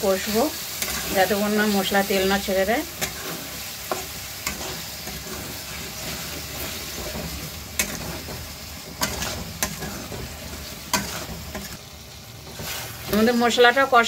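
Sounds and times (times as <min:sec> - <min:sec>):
paste and potatoes sizzling in oil: 0:00.0 - 0:14.0
spatula stirring and scraping: 0:00.2 - 0:13.5.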